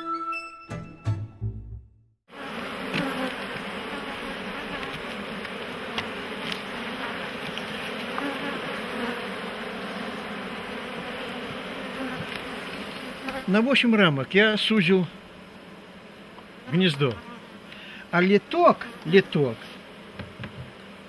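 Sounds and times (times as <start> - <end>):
bees buzzing: 2.3 - 21.0.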